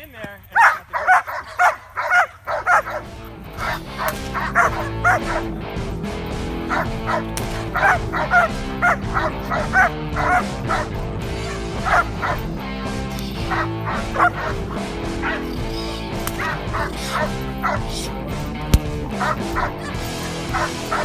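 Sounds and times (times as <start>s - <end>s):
background music: 0.0s - 21.0s
dog barking rapidly: 0.5s - 21.0s.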